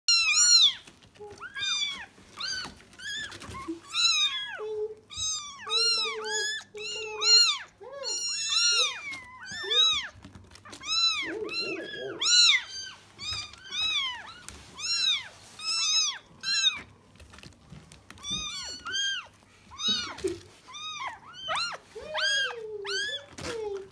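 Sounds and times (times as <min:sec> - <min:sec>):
cat mewing: 0:00.1 - 0:16.9, 0:18.2 - 0:23.9.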